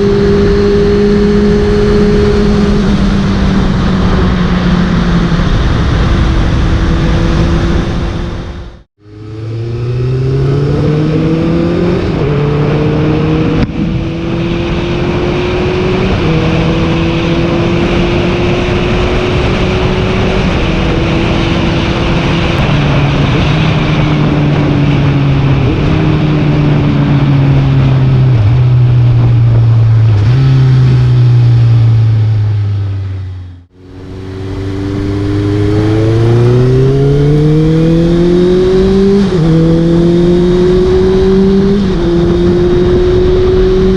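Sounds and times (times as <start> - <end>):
wind rush on microphone: 0.0 - 8.8, 10.5 - 32.2, 33.9 - 43.9
motorcycle engine: 0.0 - 43.9.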